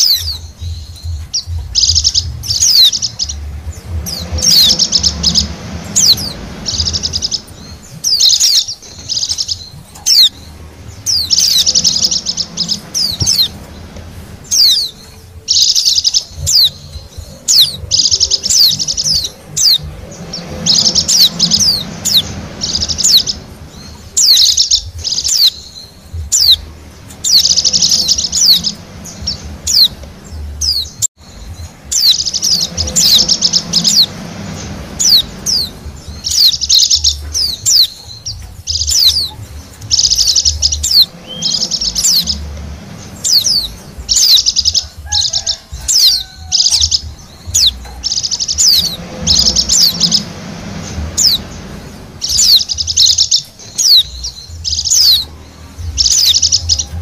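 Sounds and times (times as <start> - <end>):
bird twittering: 0.0 - 57.0.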